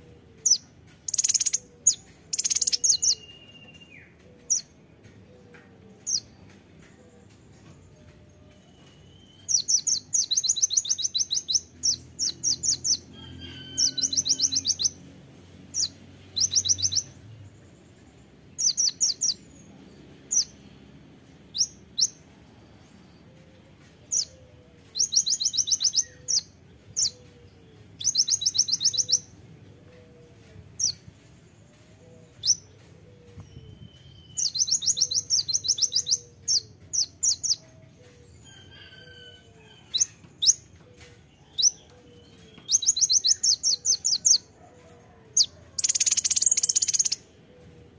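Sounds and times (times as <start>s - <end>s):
bird trilling song: 0.0s - 6.4s, 7.3s - 15.0s, 15.7s - 17.2s, 18.5s - 20.6s, 21.5s - 22.3s, 23.2s - 29.4s, 30.4s - 44.5s, 45.4s - 47.7s.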